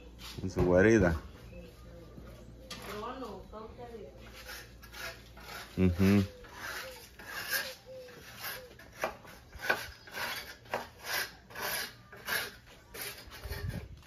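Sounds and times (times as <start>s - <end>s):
rhythmic rasping scraping: 2.7s - 14.0s.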